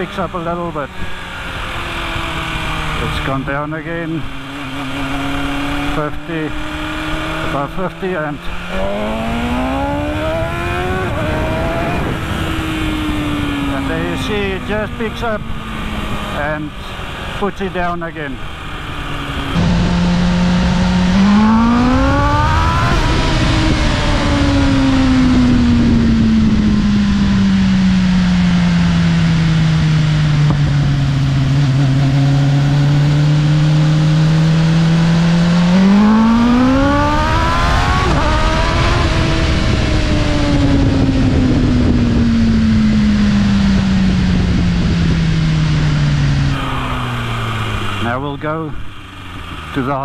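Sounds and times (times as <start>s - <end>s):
motorcycle engine revving: 0.0s - 50.0s
wind and road noise: 0.0s - 50.0s.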